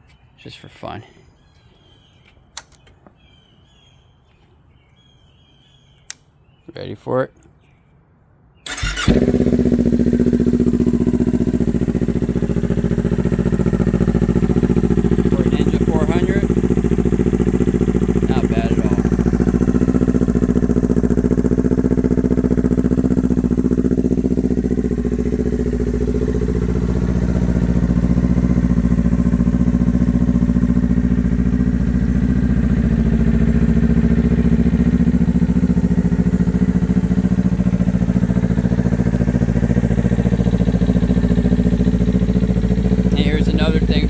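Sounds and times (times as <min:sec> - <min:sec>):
motorcycle engine idling: 0:08.7 - 0:44.0.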